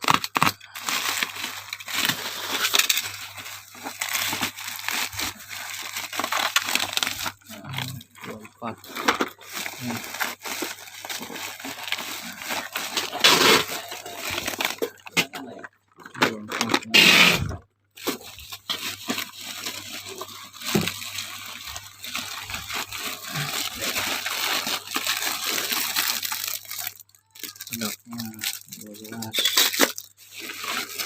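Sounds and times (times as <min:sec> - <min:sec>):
packaging rustling and crinkling: 0:00.0 - 0:31.0.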